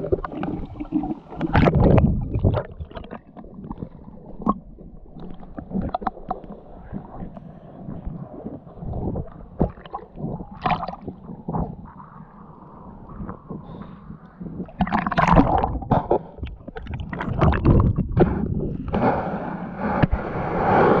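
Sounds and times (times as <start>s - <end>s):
water splashing and gurgling: 0.0s - 13.9s, 14.5s - 21.0s.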